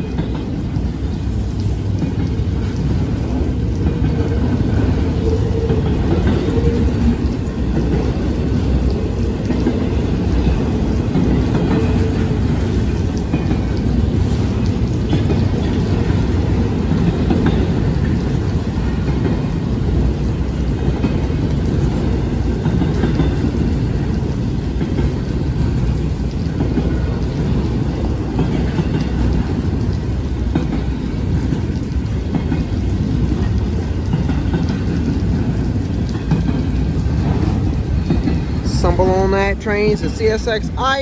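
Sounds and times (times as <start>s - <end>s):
freight train wheels on rail: 0.0s - 41.0s.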